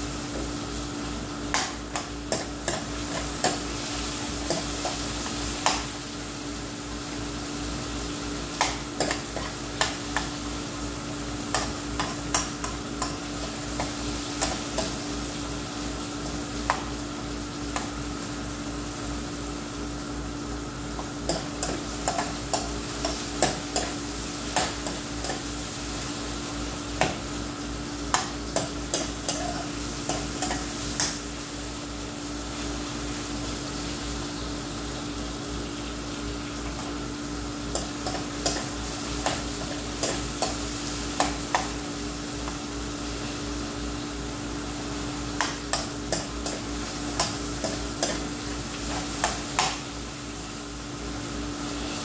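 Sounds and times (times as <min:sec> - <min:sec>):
chicken sizzling in frying pan: 0:00.0 - 0:52.0.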